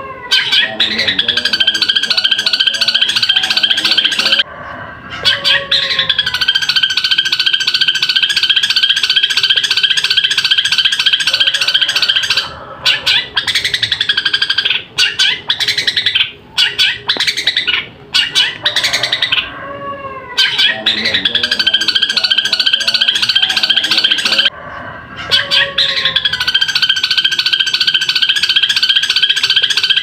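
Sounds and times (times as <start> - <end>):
shrike singing harsh chatter: 0.4 - 19.5, 20.4 - 24.6, 25.2 - 30.0.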